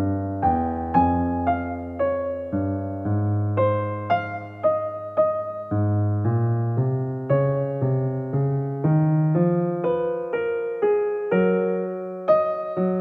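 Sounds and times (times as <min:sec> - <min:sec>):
piano playing notes: 0:00.0 - 0:13.0.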